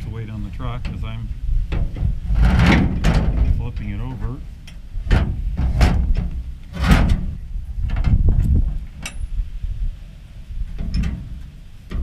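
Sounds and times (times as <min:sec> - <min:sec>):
metal rack clunking and scraping: 0:00.6 - 0:09.4, 0:10.6 - 0:12.0
metal bump: 0:00.7 - 0:09.5, 0:10.6 - 0:12.0.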